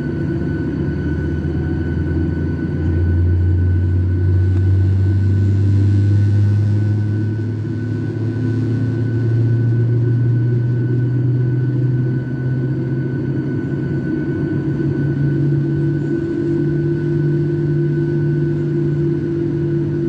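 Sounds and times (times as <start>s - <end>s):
jet engines droning: 0.0s - 20.0s.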